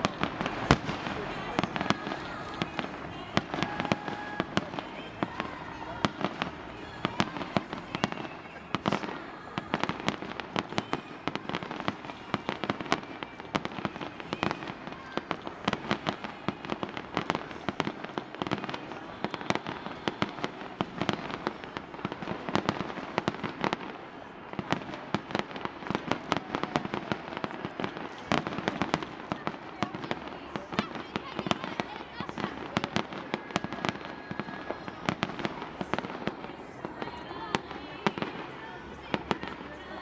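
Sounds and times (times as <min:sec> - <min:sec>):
distant explosions hiss: 0:00.0 - 0:40.0
fireworks bangs and crackling pops: 0:00.0 - 0:40.0.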